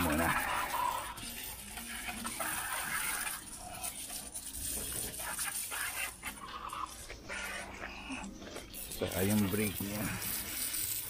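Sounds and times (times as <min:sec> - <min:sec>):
hose water spraying on metal: 0:00.0 - 0:11.0.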